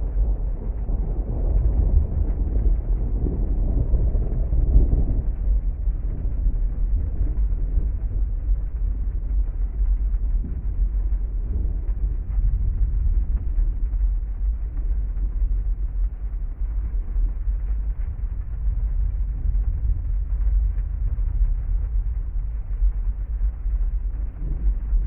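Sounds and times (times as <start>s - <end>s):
deep muffled storm rumble: 0.0s - 25.0s.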